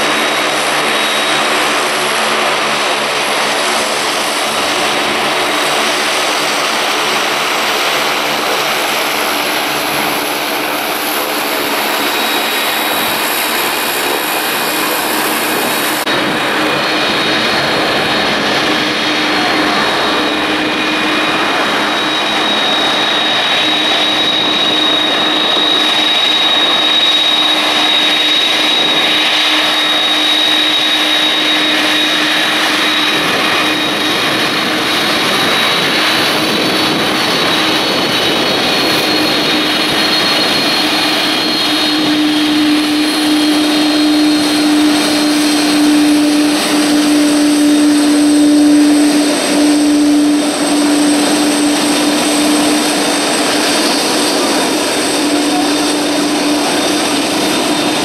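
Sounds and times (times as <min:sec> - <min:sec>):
high fan whine: 0:00.0 - 0:58.0
jet engines running: 0:00.0 - 0:58.0.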